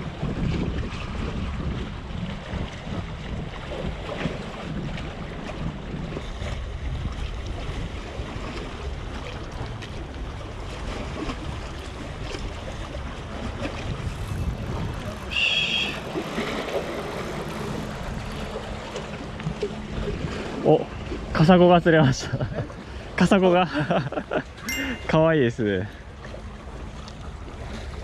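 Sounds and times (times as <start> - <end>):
wind buffeting microphone: 0.0 - 23.1
waves sloshing against concrete: 0.0 - 28.0.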